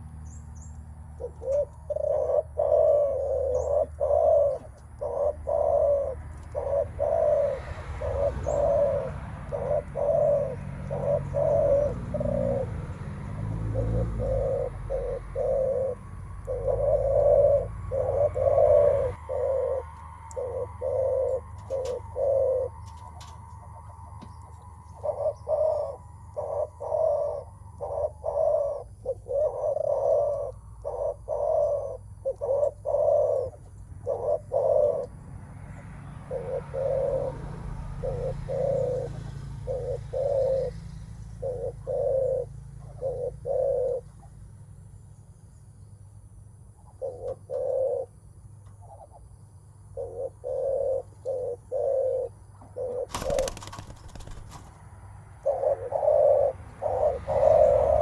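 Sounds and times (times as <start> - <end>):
dove cooing: 1.1 - 35.2, 36.0 - 44.4, 46.8 - 49.3, 49.9 - 58.0.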